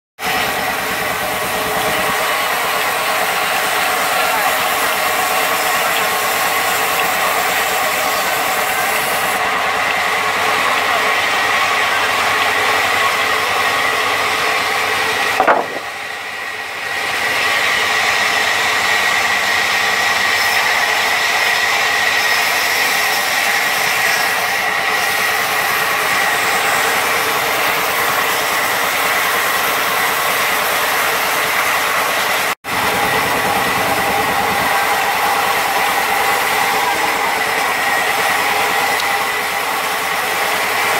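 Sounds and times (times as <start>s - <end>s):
band saw cutting log: 0.2s - 40.9s.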